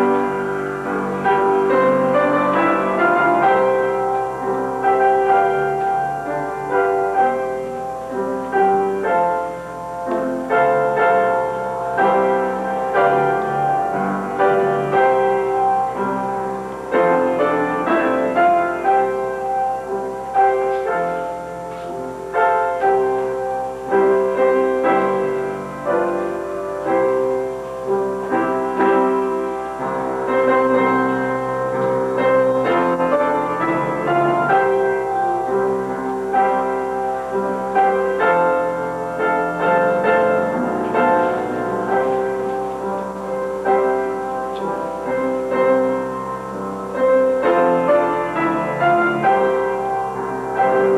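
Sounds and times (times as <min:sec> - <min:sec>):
slow piano piece: 0:00.0 - 0:50.9.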